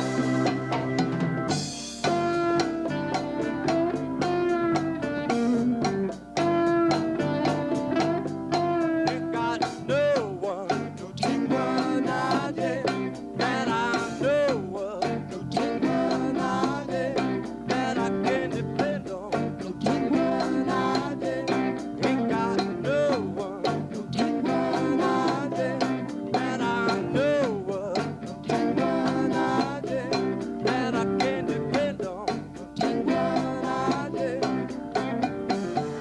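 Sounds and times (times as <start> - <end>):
guitar bending notes: 0.0 - 36.0
live blues rock band: 0.0 - 36.0.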